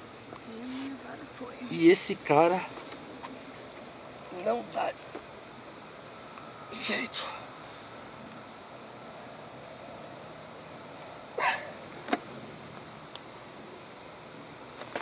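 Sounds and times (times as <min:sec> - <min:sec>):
night insect chorus: 0:00.0 - 0:15.0.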